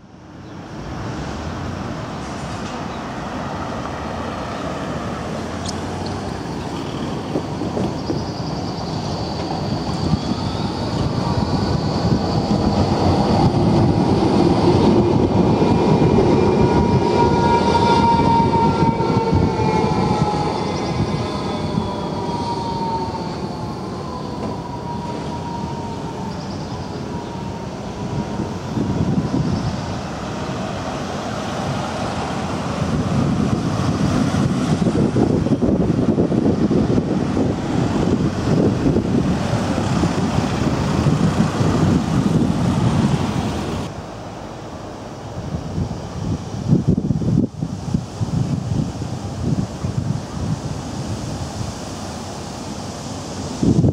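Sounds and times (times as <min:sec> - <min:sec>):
road traffic passing: 0:00.0 - 0:53.9
tram rumbling past: 0:00.0 - 0:53.9
tram wheels high tones: 0:00.5 - 0:47.7.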